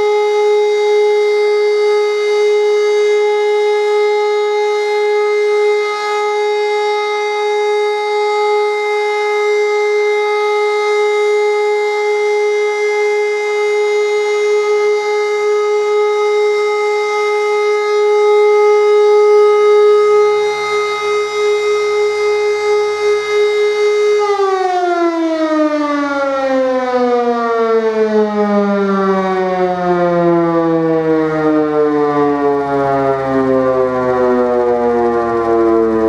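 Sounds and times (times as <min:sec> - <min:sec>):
civil defence siren steady tone: 0:00.0 - 0:36.0.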